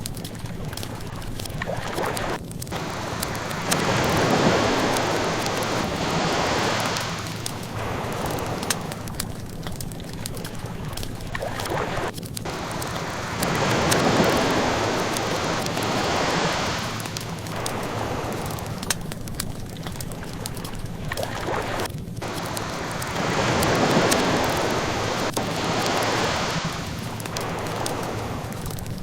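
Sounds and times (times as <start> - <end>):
ocean waves washing in: 0.0 - 29.0
wood fire crackling: 0.0 - 29.0.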